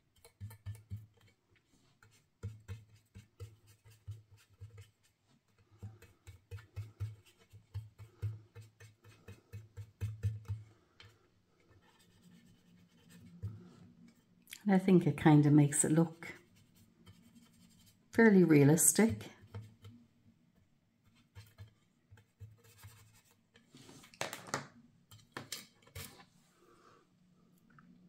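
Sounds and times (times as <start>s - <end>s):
brush dabbing ink on cardstock: 0.0s - 20.0s, 21.0s - 24.0s.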